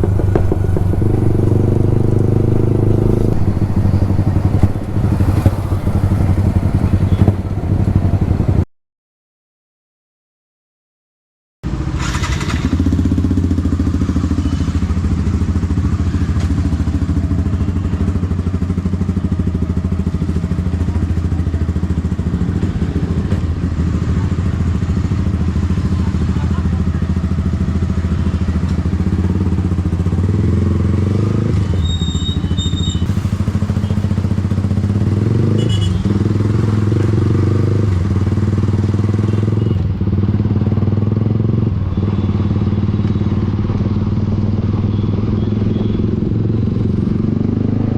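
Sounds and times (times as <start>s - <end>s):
motorcycle engine revving: 0.0s - 8.6s, 11.7s - 47.9s.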